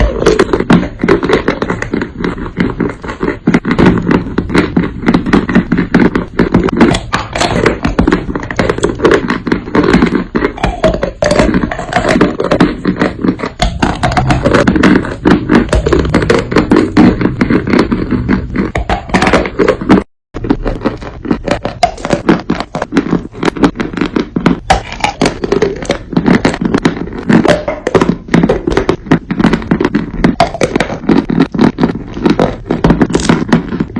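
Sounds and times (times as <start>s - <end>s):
dry clay crunching: 0.0s - 33.9s.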